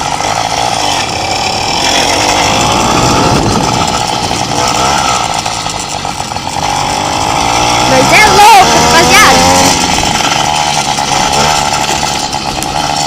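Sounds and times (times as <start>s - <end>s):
small motorcycle engine buzzing: 0.0s - 13.0s.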